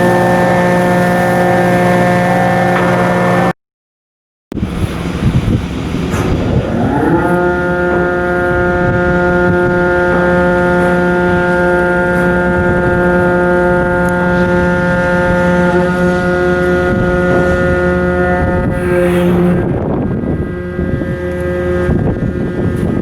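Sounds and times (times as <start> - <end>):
engine rush: 0.0 - 3.5, 4.5 - 23.0
wind: 0.0 - 3.5, 4.5 - 23.0
ship's horn blast: 0.0 - 3.6, 4.6 - 23.0.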